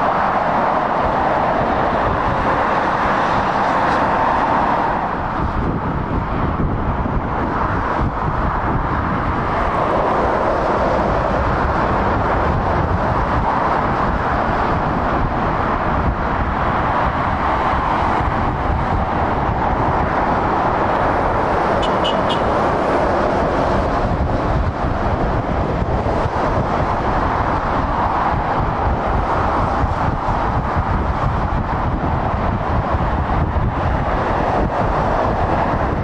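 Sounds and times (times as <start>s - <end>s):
motorway traffic roar: 0.0s - 36.0s.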